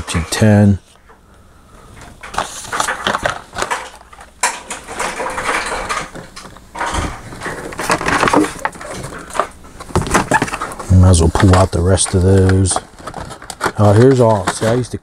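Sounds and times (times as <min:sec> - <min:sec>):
plastic packaging crackling: 0:02.2 - 0:15.0.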